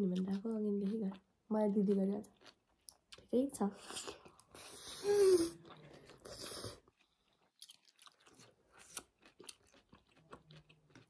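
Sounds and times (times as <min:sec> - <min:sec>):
quiet chewing with lip smacks: 0:00.0 - 0:11.0.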